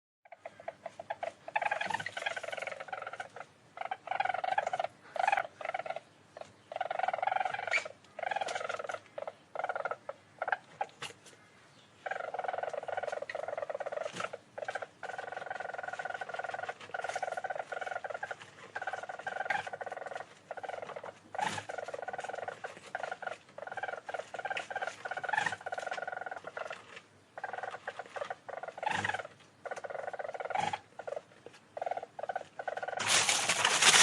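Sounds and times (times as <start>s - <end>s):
small animal rapid pulsing trill: 0.3s - 6.0s, 12.0s - 34.0s.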